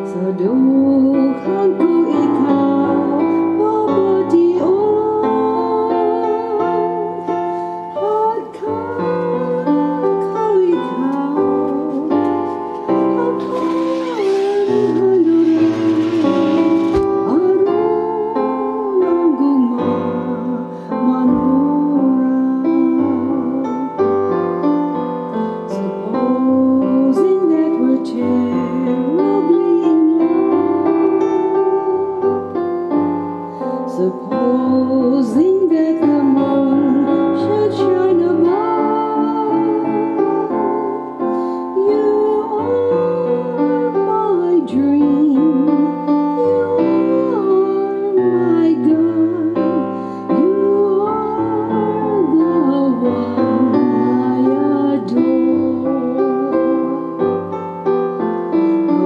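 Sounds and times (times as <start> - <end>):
woman singing with vibrato: 0.0 - 24.1, 25.7 - 32.3, 33.8 - 57.5
piano playing held chords: 0.0 - 59.0.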